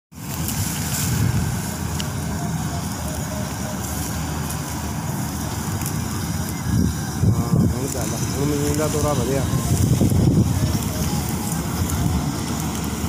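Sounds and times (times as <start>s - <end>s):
distant combine harvester rumble: 0.1s - 13.0s.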